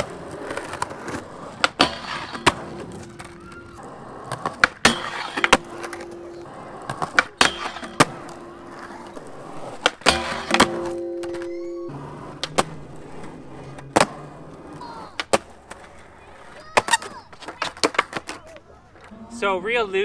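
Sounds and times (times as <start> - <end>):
skateboard tail popping clacks: 0.0 - 19.1
skateboard grinding metal bar: 0.0 - 20.0
skateboard rolling on pavement: 0.0 - 20.0.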